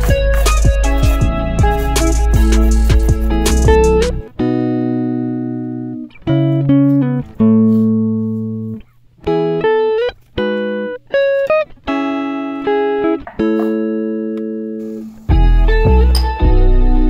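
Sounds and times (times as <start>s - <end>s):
plucked guitar-like music: 0.0s - 17.0s.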